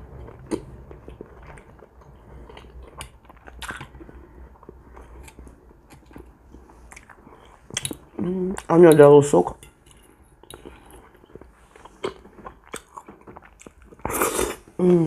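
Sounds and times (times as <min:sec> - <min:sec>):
person chewing: 0:00.0 - 0:09.0, 0:09.7 - 0:15.0.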